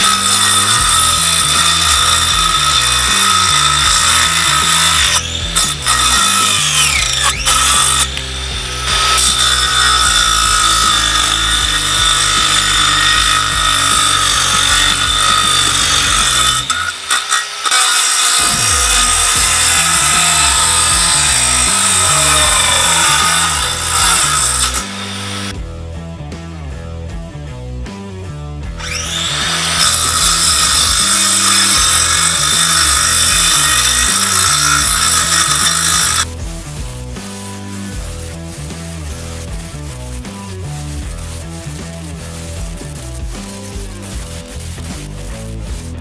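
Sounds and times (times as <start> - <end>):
background music with beat: 0.0 - 16.7, 18.5 - 46.0
angle grinder saw cutting wood: 0.0 - 25.6, 28.7 - 46.0.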